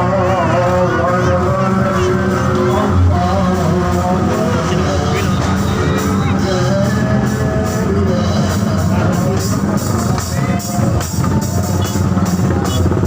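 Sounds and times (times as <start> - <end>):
loud music with heavy bass: 0.0 - 13.0.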